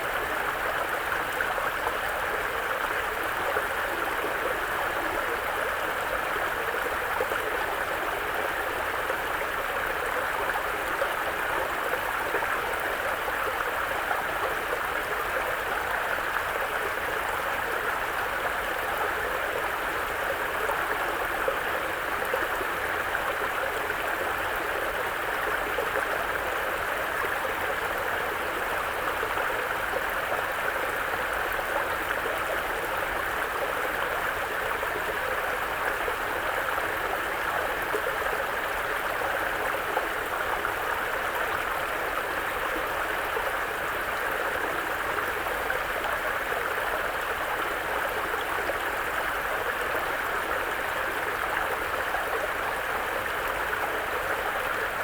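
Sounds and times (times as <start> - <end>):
brook flowing: 0.0 - 55.0.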